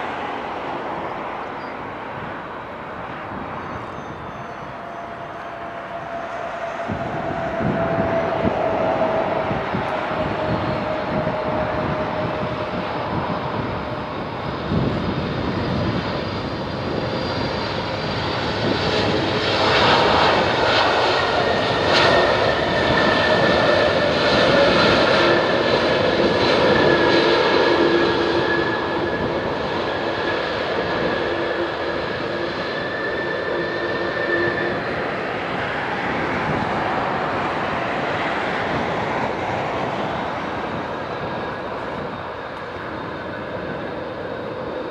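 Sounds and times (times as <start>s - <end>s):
jet engine roar: 0.0s - 44.9s.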